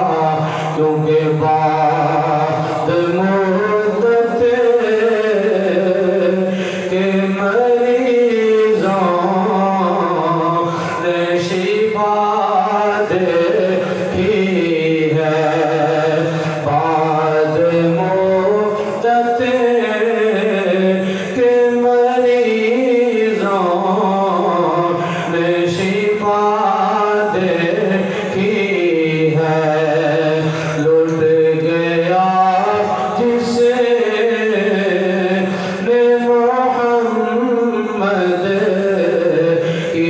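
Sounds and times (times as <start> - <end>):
man chanting: 0.0 - 40.0.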